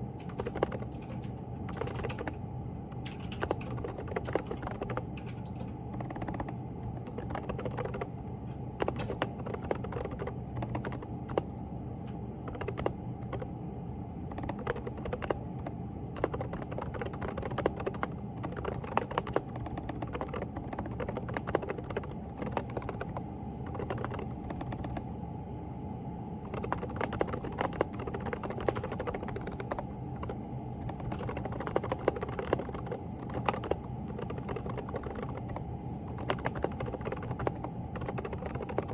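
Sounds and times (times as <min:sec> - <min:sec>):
soft keyboard typing: 0:00.0 - 0:25.3, 0:26.4 - 0:38.9
steady low hum: 0:00.0 - 0:38.9.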